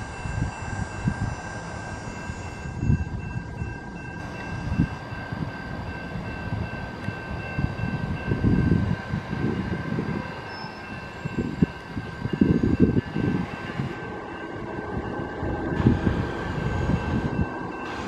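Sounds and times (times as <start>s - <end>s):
high thin whine: 0.0s - 18.0s
train rumbling past: 0.0s - 18.0s.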